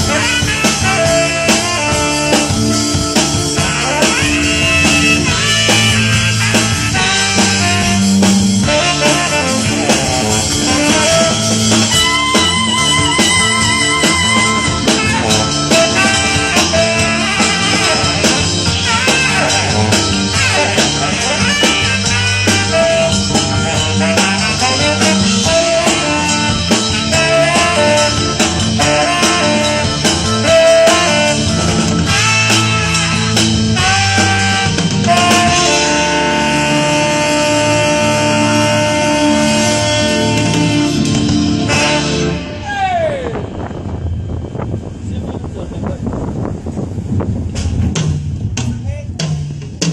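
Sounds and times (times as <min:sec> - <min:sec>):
band playing blues-rock: 0:00.0 - 0:44.3.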